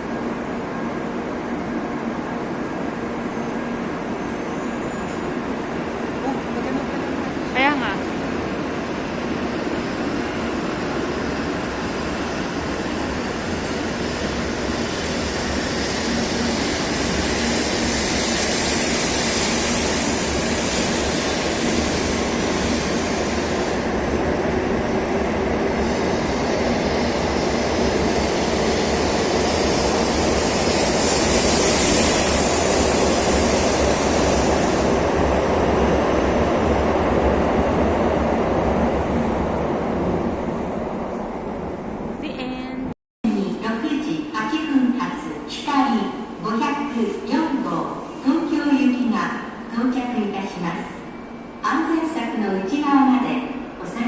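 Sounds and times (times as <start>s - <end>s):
bullet train passing: 0.0s - 54.0s.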